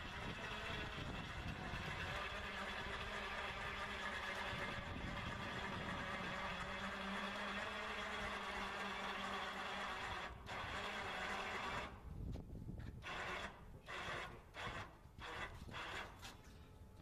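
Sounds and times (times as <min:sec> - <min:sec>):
electric winch running: 0:00.0 - 0:12.2, 0:13.0 - 0:16.4.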